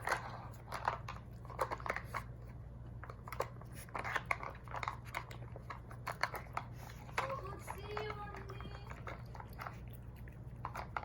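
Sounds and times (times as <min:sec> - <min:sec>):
dogs crunching and chewing treats: 0:00.0 - 0:11.0.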